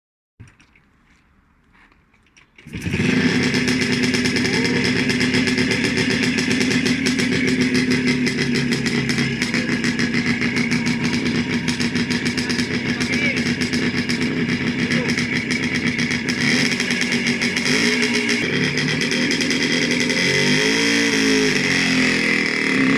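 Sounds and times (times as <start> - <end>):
motorcycle engine running: 0.4 - 22.9.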